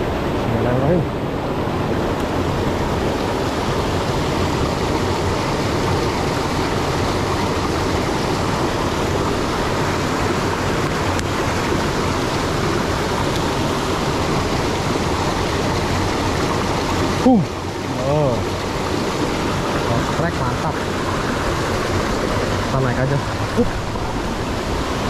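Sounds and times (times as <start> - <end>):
river water rushing over boulders: 0.0 - 25.0.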